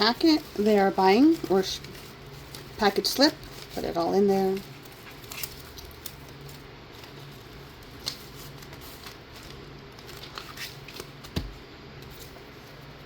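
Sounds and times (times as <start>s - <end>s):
faint steady hum: 0.0s - 13.0s
paper rustling: 0.0s - 13.0s.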